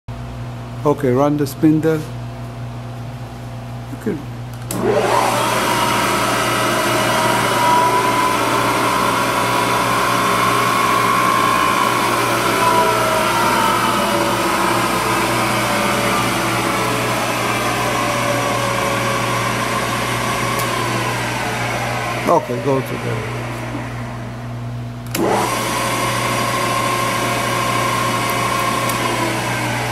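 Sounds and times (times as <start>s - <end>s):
mill spindle motor whirring: 4.6s - 29.9s.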